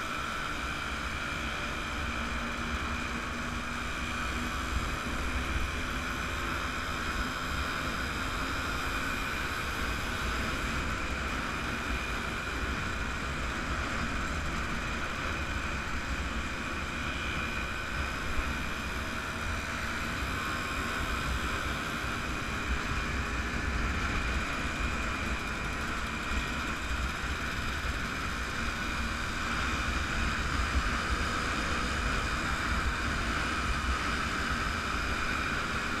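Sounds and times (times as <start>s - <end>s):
motorcycle engines running: 0.0s - 36.0s.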